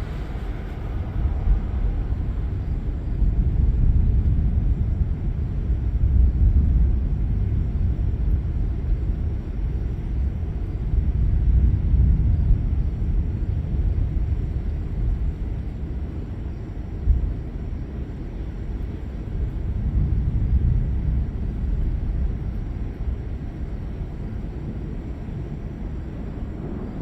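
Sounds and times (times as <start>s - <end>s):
thunder rumbling: 0.0s - 27.0s.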